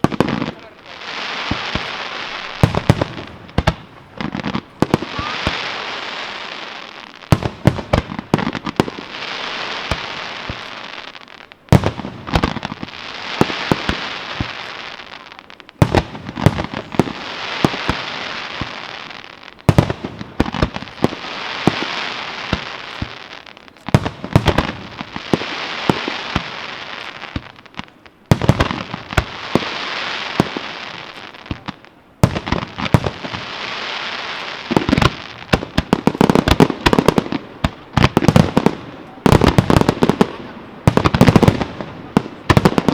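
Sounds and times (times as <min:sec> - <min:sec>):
fireworks bangs: 0:00.0 - 0:42.9
fireworks crackling hiss: 0:00.0 - 0:42.9.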